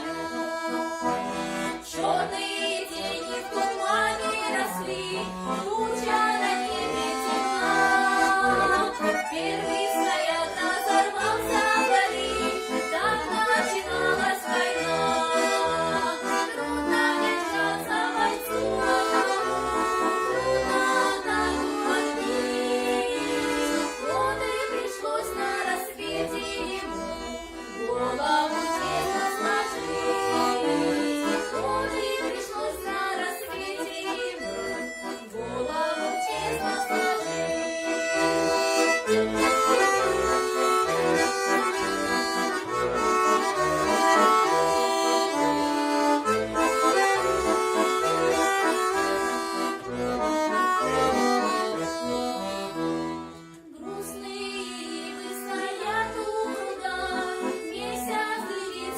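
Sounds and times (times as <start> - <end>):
accordion playing a tune: 0.0 - 58.9.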